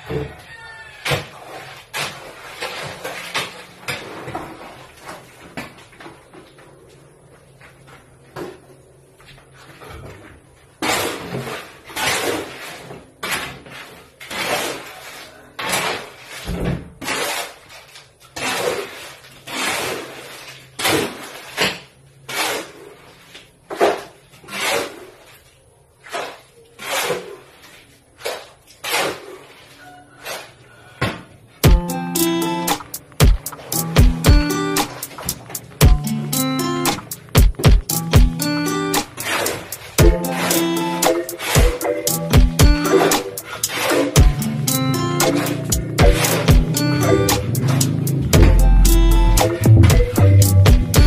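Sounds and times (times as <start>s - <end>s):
shovel scraping concrete floor: 0.0s - 5.6s, 9.5s - 30.6s, 32.2s - 50.2s.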